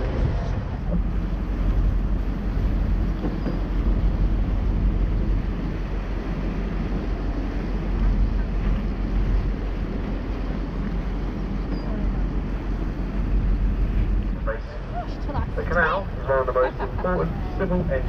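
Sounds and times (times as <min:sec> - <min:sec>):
boat engine drone: 0:00.0 - 0:18.0
water rushing in wake: 0:00.0 - 0:18.0.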